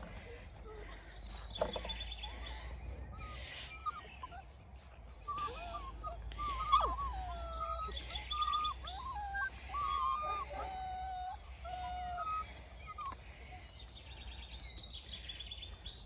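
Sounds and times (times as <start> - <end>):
puppies squeaking and whining: 0.0 - 13.5
small birds chirping: 0.0 - 16.0.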